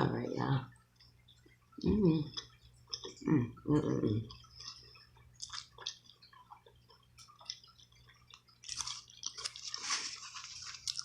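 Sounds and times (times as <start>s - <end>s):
wet chewing and lip smacks: 0.7s - 3.2s, 4.3s - 11.0s.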